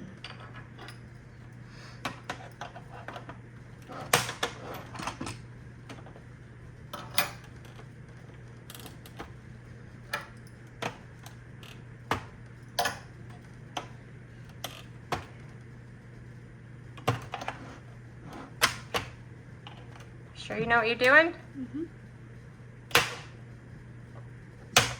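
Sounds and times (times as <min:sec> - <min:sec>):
faint low hum: 0:00.0 - 0:24.9.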